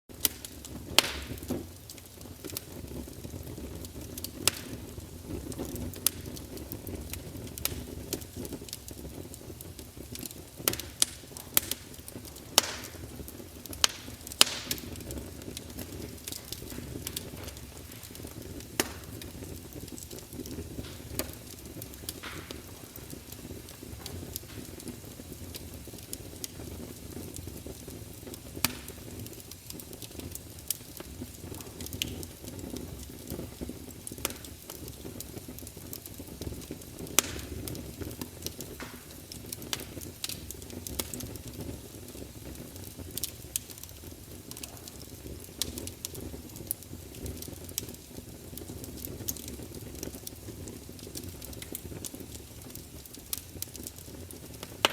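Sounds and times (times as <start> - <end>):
burning wood popping: 0.1 - 54.9
low rush of flame: 0.1 - 54.9.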